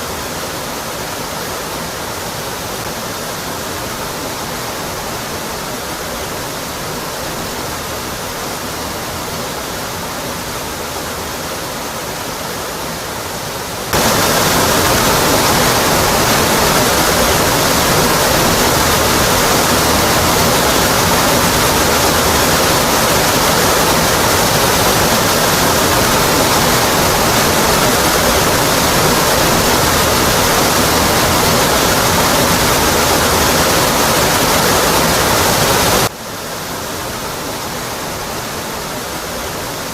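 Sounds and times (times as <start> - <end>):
waterfall roaring onto rock: 0.0 - 39.9.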